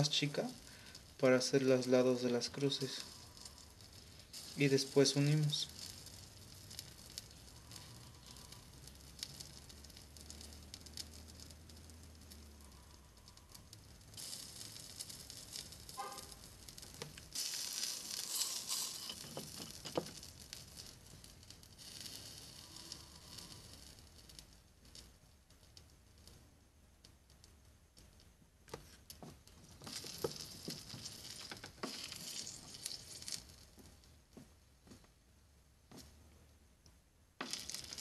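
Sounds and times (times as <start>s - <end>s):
flux sizzling under soldering iron: 0.0s - 26.4s, 27.0s - 34.4s, 37.4s - 38.0s.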